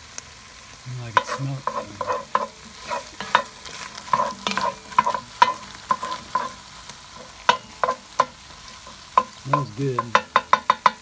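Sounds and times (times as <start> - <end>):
faint frying sizzle: 0.0 - 11.0
wooden spatula scraping a pot: 1.1 - 11.0.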